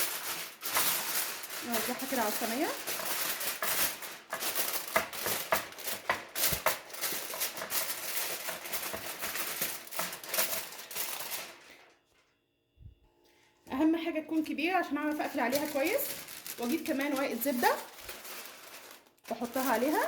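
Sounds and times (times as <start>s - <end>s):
aluminium foil crinkling: 0.0s - 12.3s, 14.2s - 20.0s.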